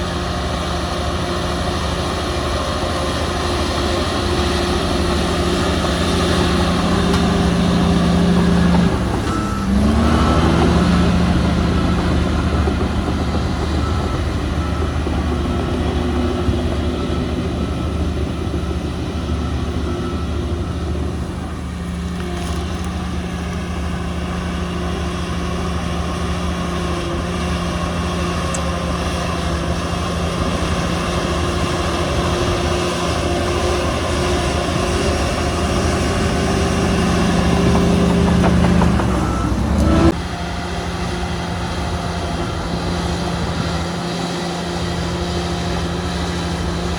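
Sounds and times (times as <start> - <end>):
diesel earthmoving machine running: 0.0 - 46.9.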